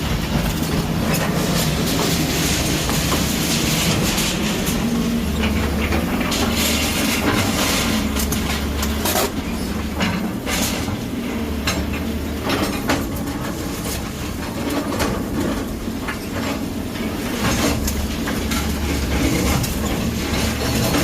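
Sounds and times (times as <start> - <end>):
demolition machinery rumbling: 0.0 - 21.0
rubble and metal clanking: 0.0 - 21.0.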